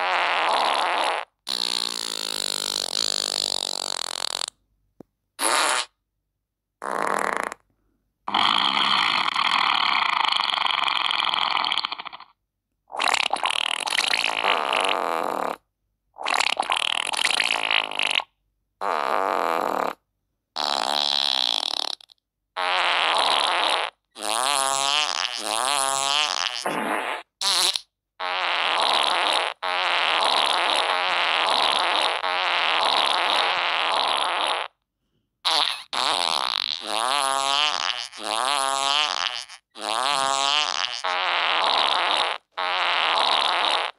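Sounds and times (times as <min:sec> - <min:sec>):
long fart sounds: 0:00.0 - 0:04.6, 0:05.4 - 0:06.0, 0:06.8 - 0:07.6, 0:08.3 - 0:34.8, 0:35.4 - 0:43.9.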